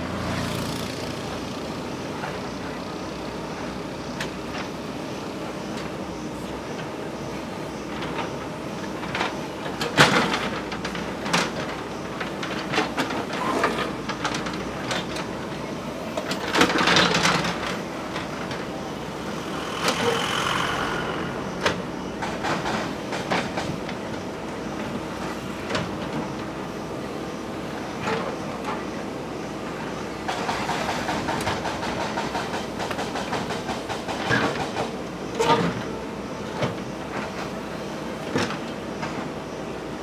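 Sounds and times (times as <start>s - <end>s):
diesel engine under load: 0.0s - 40.0s.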